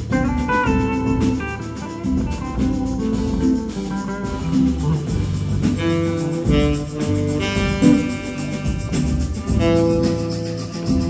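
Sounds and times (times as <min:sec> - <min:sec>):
live band with electric guitars: 0:00.0 - 0:11.0.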